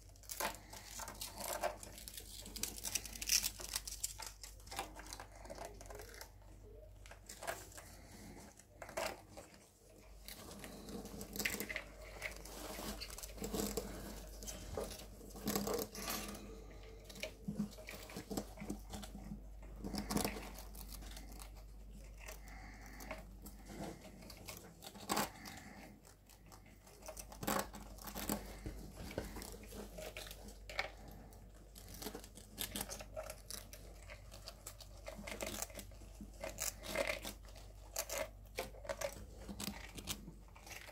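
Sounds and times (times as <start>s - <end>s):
rustling of wood shavings: 0.0s - 6.3s, 7.1s - 40.9s
rats gnawing and crunching: 0.0s - 40.9s.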